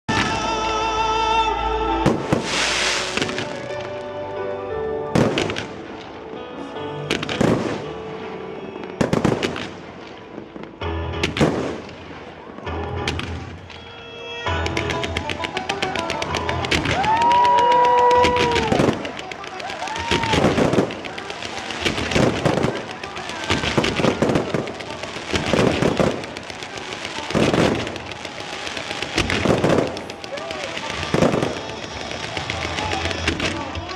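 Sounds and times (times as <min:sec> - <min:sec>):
fireworks bangs: 0:00.1 - 0:00.7, 0:02.0 - 0:04.1, 0:05.1 - 0:33.9.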